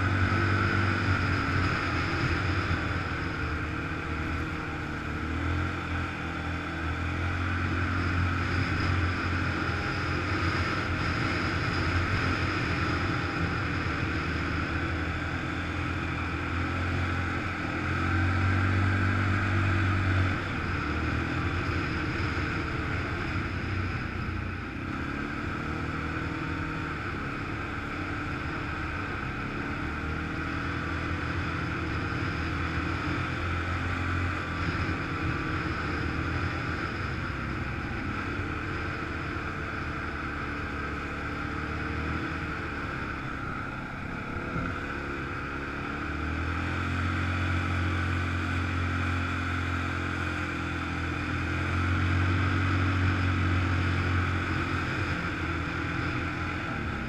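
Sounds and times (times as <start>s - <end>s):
atv engine drone: 0.0s - 57.0s.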